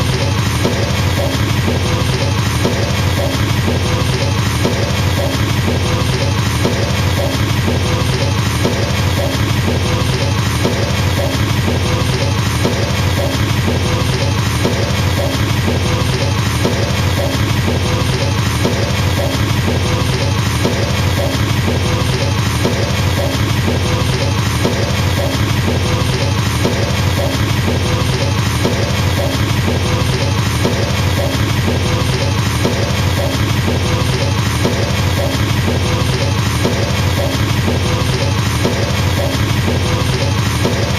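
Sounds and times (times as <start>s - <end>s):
fast double bass drum: 0.0s - 40.9s.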